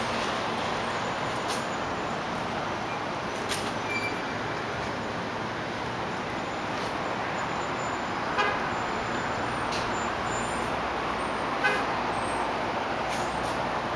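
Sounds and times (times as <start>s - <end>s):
road traffic hum: 0.0s - 13.9s.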